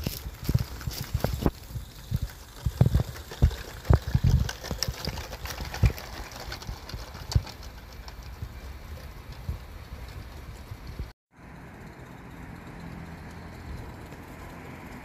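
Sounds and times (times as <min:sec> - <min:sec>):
wheels knocking and clattering: 0:00.0 - 0:11.1, 0:11.8 - 0:15.0
miniature steam train running: 0:00.0 - 0:15.0.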